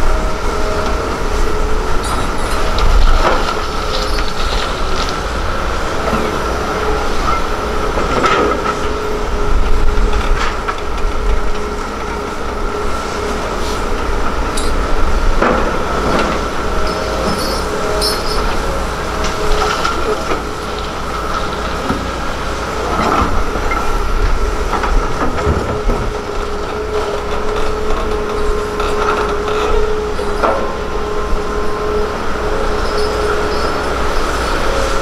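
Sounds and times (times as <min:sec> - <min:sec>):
excavator engine whining: 0:00.0 - 0:35.0.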